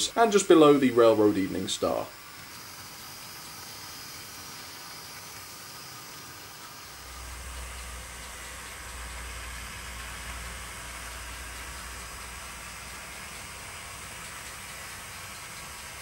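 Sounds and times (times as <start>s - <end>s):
model trains hissing: 0.0s - 16.0s.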